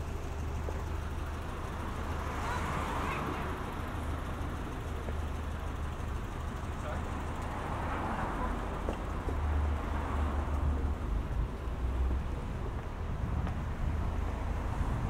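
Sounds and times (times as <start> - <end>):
road traffic hiss: 0.0 - 15.0.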